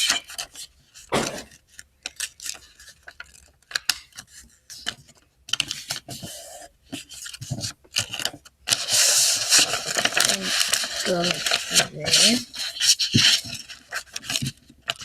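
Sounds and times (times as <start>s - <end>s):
paper rustling and folding: 0.0s - 15.0s.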